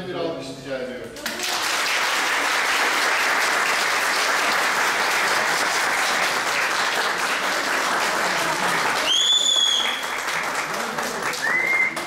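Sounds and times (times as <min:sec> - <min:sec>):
crowd applauding: 0:01.2 - 0:12.0.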